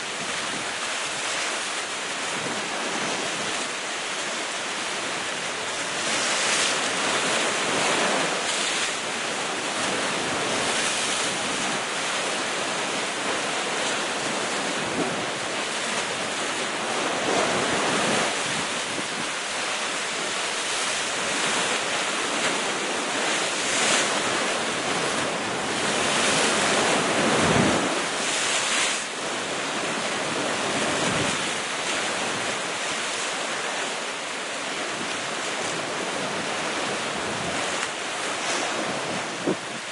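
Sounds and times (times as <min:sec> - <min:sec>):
sea waves breaking on rocks: 0:00.0 - 0:39.9.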